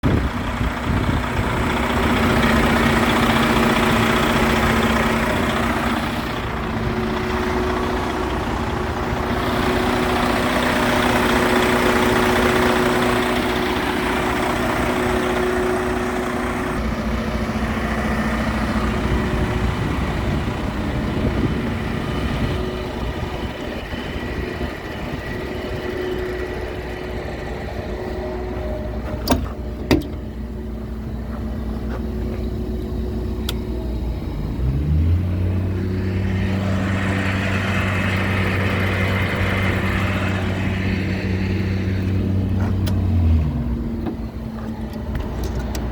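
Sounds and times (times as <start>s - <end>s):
truck engine idling: 0.0s - 45.9s.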